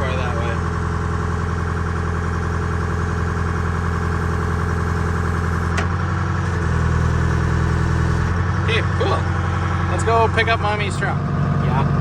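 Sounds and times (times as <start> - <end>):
forklift engine idling: 0.0 - 12.0.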